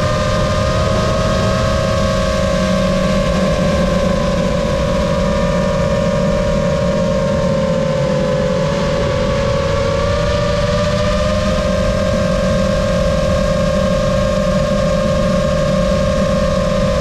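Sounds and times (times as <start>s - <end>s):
quadcopter propellers whining: 0.0s - 17.0s
rush of wind: 0.0s - 17.0s.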